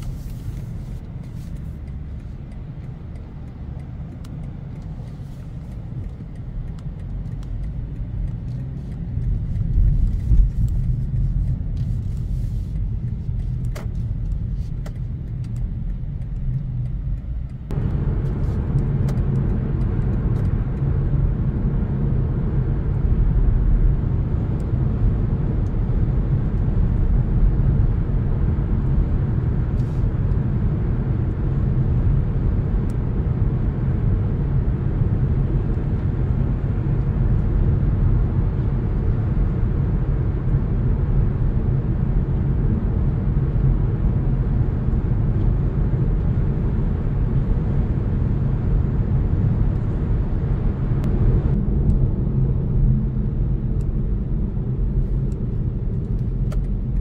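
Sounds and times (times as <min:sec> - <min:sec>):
car engine rumble: 0:00.0 - 0:57.0
road and tyre noise: 0:00.0 - 0:57.0.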